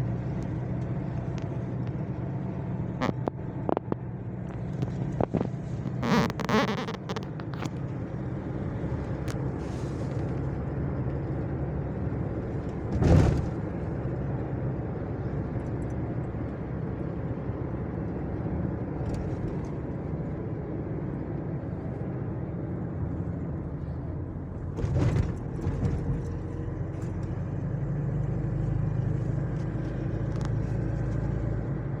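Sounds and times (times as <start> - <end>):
vehicle rumbling on road: 0.0 - 32.0.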